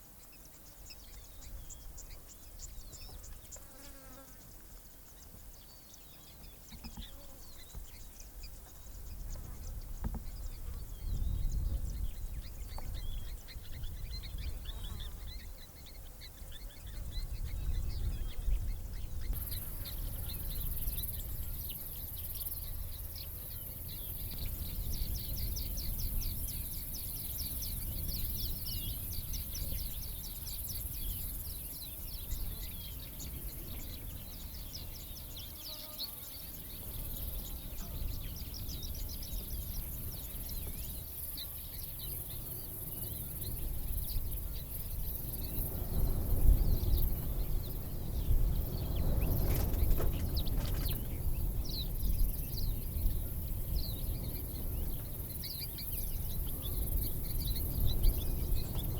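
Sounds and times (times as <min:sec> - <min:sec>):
birds chirping: 0:00.1 - 0:58.9.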